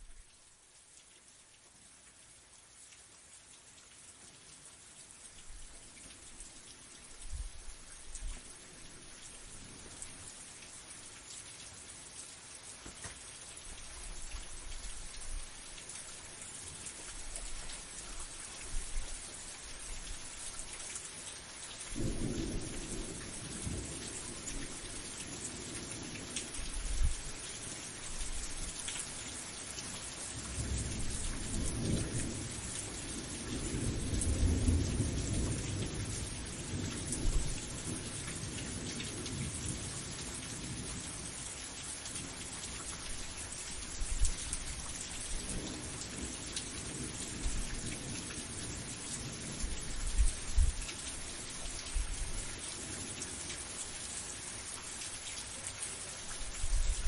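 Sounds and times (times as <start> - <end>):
heavy rain hissing: 5.4 - 57.0.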